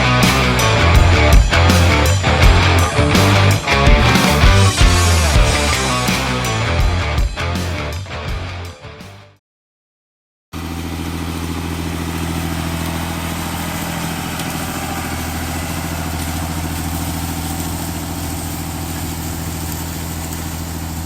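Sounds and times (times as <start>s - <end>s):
tractor engine running: 0.0s - 8.6s, 10.6s - 21.0s.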